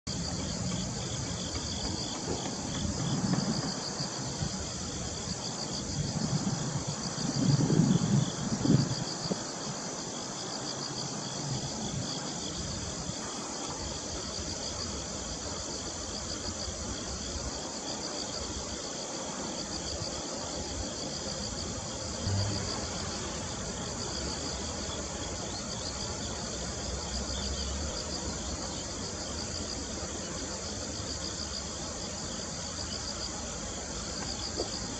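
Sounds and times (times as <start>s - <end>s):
insects chirping in pulsed trills: 0.1s - 34.9s.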